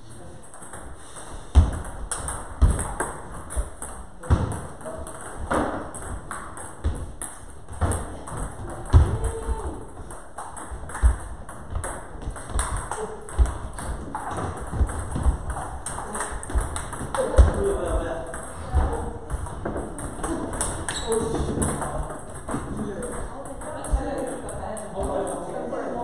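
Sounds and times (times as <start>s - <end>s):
table tennis balls clicking: 0.4s - 25.5s.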